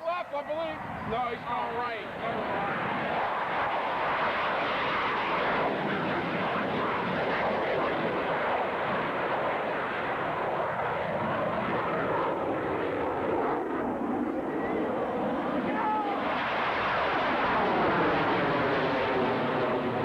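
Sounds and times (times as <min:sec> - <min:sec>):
airplane engine: 0:00.2 - 0:20.0.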